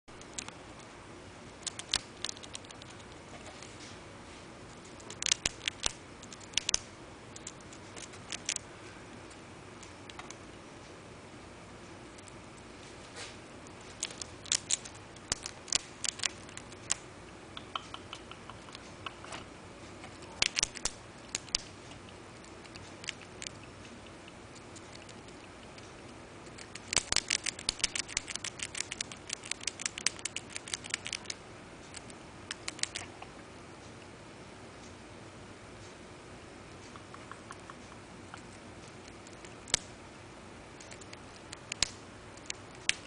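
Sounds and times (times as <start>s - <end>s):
squirrel gnawing and crunching food: 0.1s - 11.0s, 11.7s - 34.1s, 36.7s - 43.0s.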